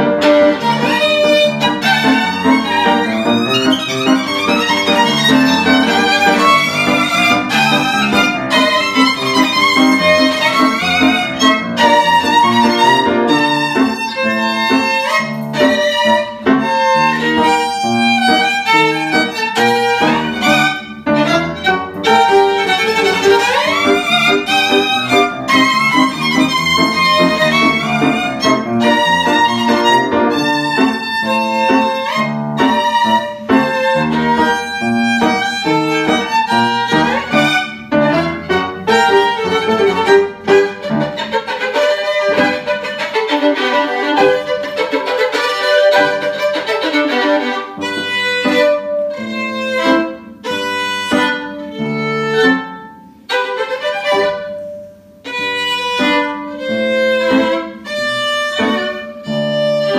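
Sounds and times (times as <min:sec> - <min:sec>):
piano accompaniment: 0:00.0 - 0:59.9
violin melody: 0:00.0 - 0:59.9.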